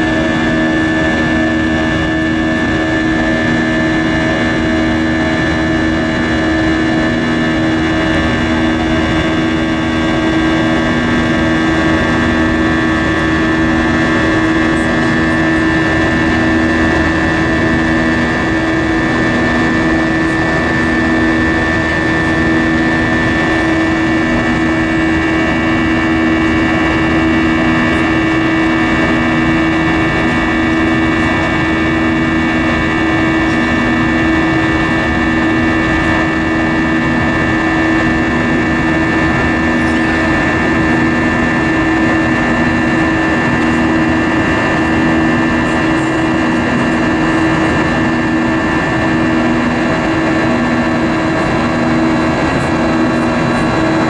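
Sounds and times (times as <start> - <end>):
airplane cabin engine drone: 0.0 - 54.0
pulsing low hum: 0.0 - 54.0.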